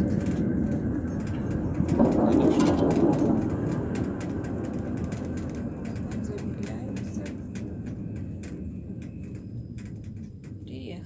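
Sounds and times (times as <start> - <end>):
cable car low rumbling: 0.0 - 11.0.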